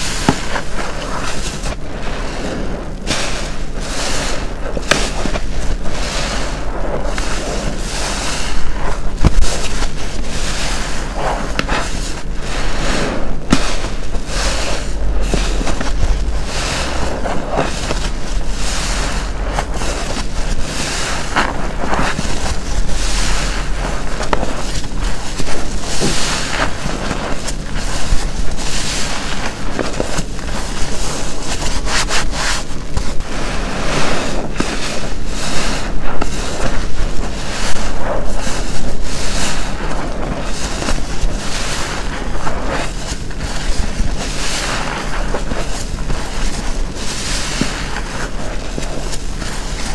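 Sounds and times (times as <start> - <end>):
wet sponge squelching and dripping: 0.0 - 49.9.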